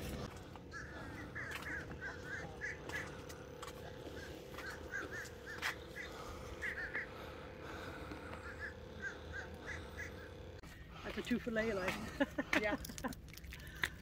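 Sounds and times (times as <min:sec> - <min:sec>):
birds calling: 0:00.0 - 0:13.0
faint steady hum: 0:00.0 - 0:14.0.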